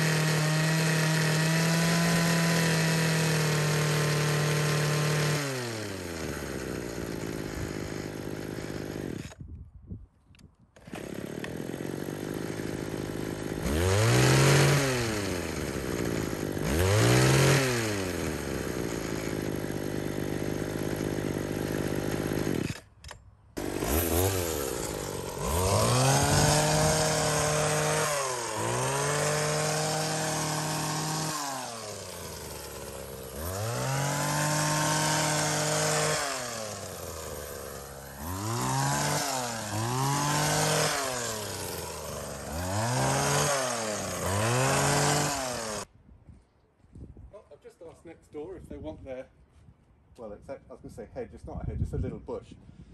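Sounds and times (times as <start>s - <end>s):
hedge cutter engine revving: 0.0s - 9.4s, 10.8s - 45.9s.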